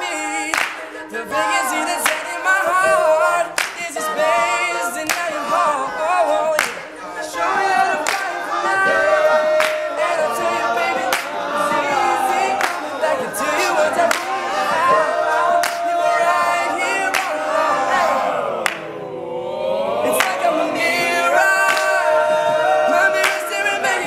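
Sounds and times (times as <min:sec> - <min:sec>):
men singing close harmony: 0:00.0 - 0:18.8, 0:19.8 - 0:24.0
vocal percussion hits: 0:00.0 - 0:24.0.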